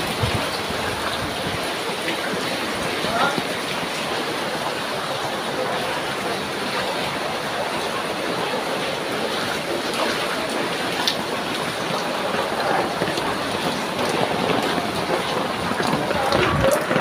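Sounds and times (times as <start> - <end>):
rain falling on floodwater: 0.0 - 17.0.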